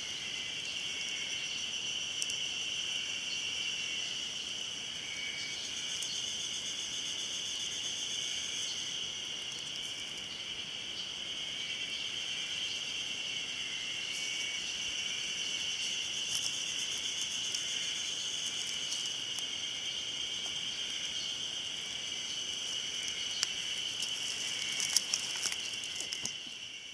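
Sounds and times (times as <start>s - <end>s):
cicadas droning: 0.0s - 26.9s.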